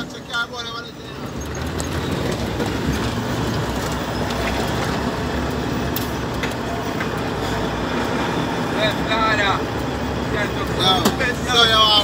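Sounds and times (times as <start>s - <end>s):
road noise rumble: 0.0s - 12.0s
truck diesel engine drone: 0.0s - 12.0s.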